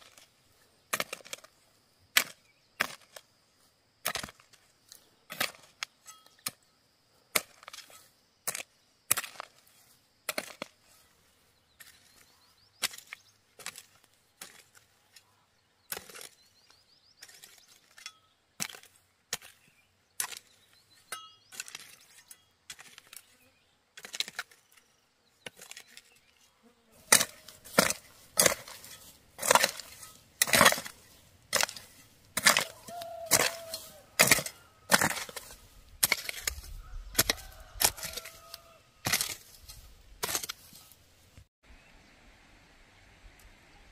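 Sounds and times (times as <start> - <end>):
hoe chopping stony soil: 0.0 - 3.4, 4.0 - 6.7, 7.3 - 26.4, 27.0 - 41.5.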